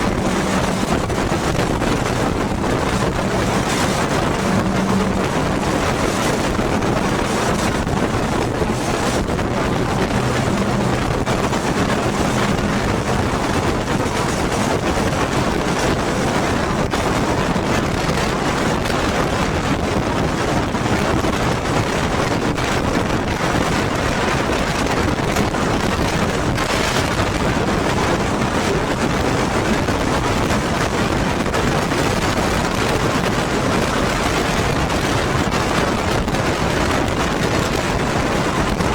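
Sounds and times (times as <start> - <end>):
wind rushing on microphone: 0.0 - 38.9.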